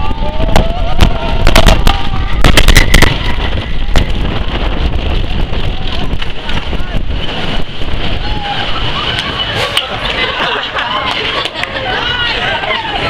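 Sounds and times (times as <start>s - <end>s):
roller coaster rumble: 0.0s - 13.0s
wind on microphone: 0.0s - 13.0s.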